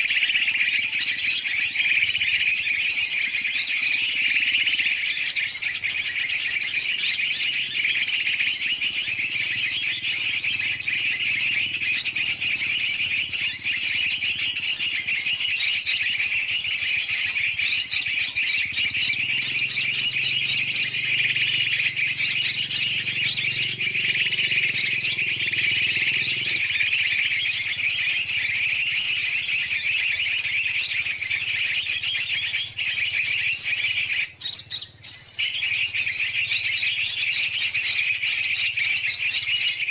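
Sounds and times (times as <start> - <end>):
many small birds chirping: 0.0 - 39.9.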